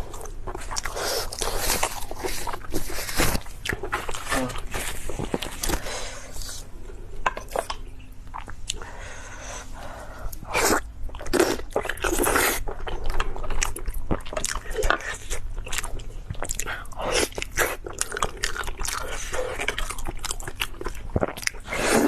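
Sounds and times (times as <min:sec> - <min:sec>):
chewing and crunching: 0:00.0 - 0:08.9, 0:10.2 - 0:22.0.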